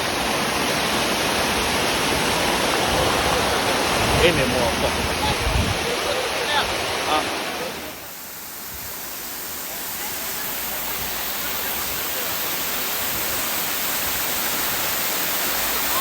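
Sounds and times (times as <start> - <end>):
cascading water: 0.0 - 16.0.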